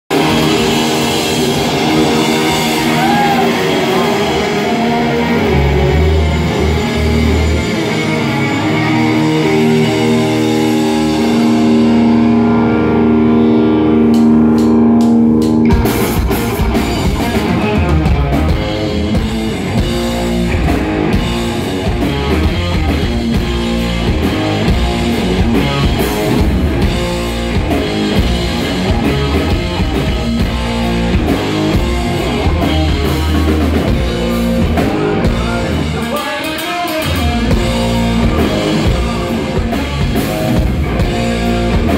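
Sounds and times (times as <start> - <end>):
drums: 0.0 - 41.9
electric guitars: 0.1 - 41.9
rock band playing: 0.1 - 41.9.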